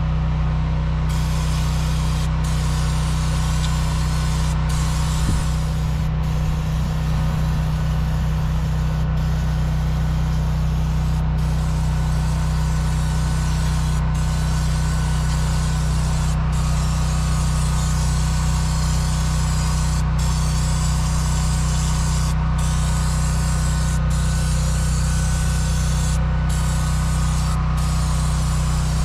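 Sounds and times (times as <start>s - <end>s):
generator and compressor engines humming: 0.0s - 29.0s
hiss of spraying: 1.1s - 29.0s.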